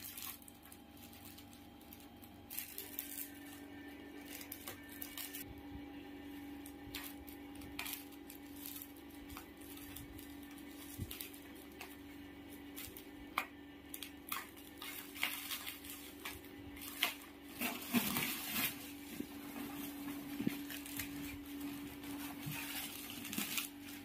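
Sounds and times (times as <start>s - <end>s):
plastic crinkling: 0.0s - 5.5s, 6.1s - 24.0s
steady low hum: 0.0s - 24.0s.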